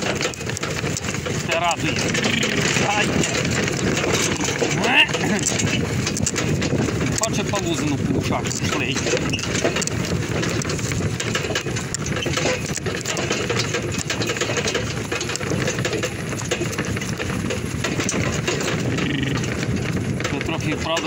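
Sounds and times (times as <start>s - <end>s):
horse-drawn cart rattling on pavement: 0.0s - 21.0s.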